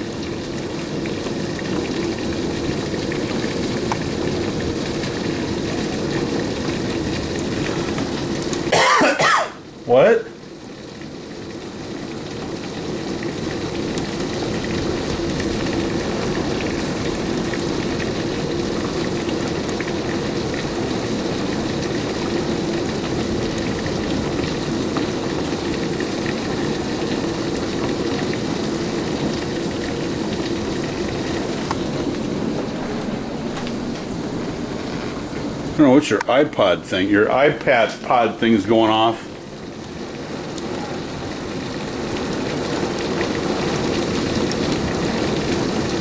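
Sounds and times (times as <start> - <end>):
heavy rain hissing: 0.0 - 46.0.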